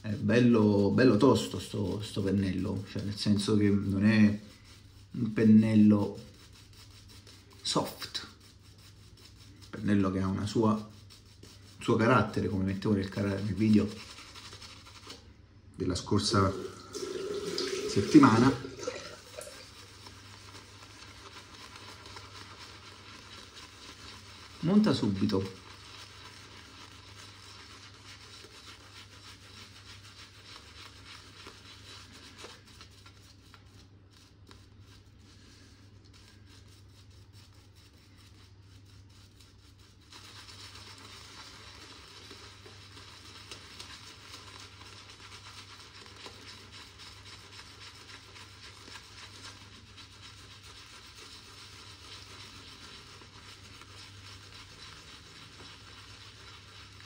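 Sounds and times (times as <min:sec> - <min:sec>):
shaving brush rubbing lather: 0:00.0 - 0:57.0.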